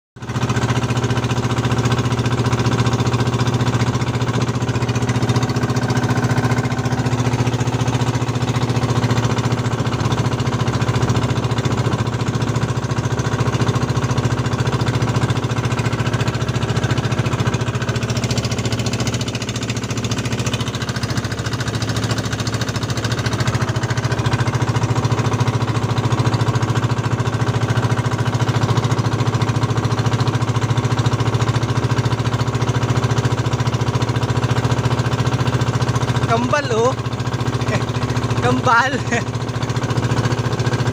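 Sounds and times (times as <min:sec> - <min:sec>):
boat engine chugging: 0:00.2 - 0:40.9.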